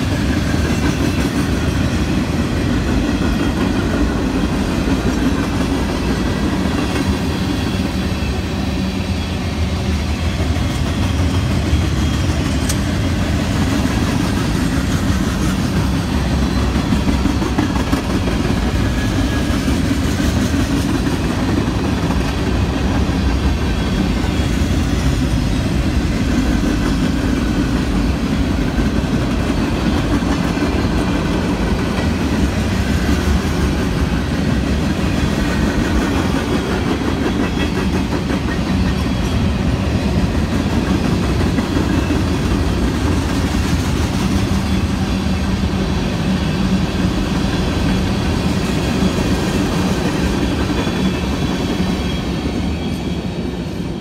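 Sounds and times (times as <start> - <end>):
freight train rumbling on rails: 0.0 - 54.0.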